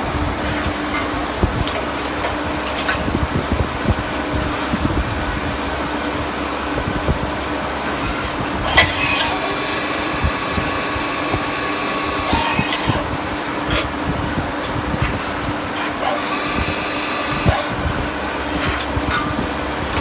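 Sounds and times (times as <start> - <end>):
lathe mechanical hum: 0.0 - 20.0
machine whine: 0.0 - 20.0.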